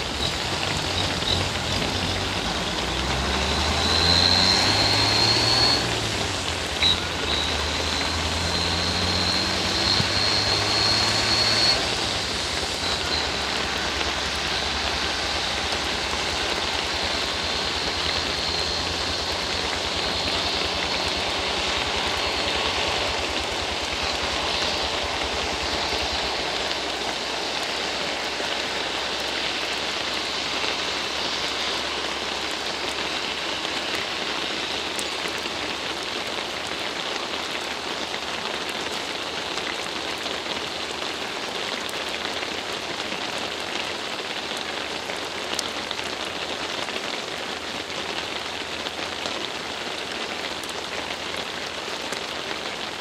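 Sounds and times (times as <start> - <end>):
rain on wet road: 0.0 - 53.0.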